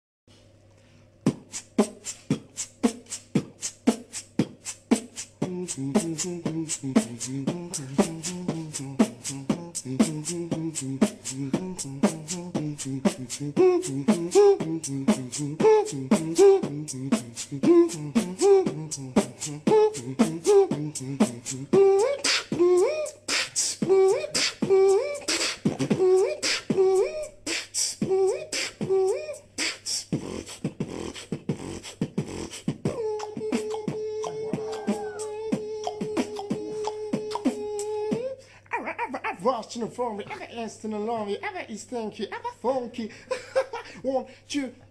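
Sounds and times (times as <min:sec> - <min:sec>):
hissing vocal cymbal sounds: 0:01.3 - 0:41.4
vocal bass line: 0:01.3 - 0:43.2
man beatboxing: 0:01.3 - 0:44.8.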